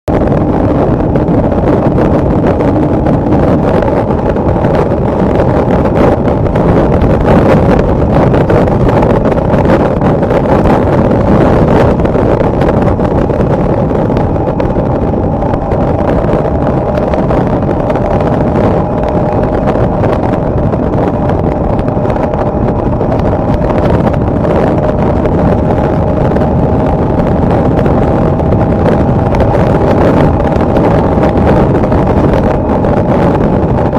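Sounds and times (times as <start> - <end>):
motorcycle engine drone: 0.0 - 33.9
wind rush on microphone: 0.0 - 33.9.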